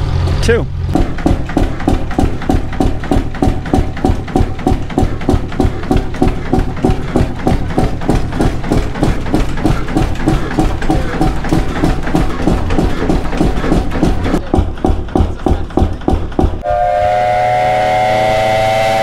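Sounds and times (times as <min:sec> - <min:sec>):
low engine hum: 0:00.0 - 0:16.7
stationary gas engine exhaust beat: 0:00.0 - 0:19.0.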